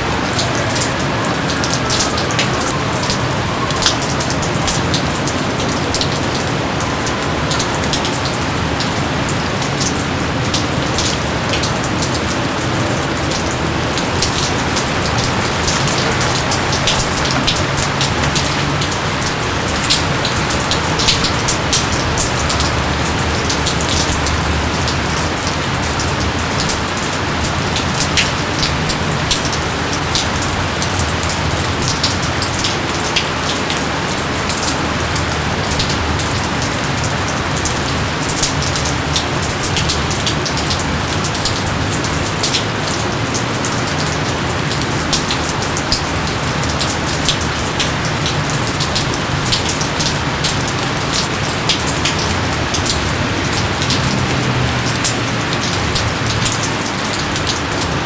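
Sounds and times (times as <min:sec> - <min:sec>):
loud rainfall: 0:00.0 - 0:58.0
raindrops ticking on surfaces: 0:00.0 - 0:58.0.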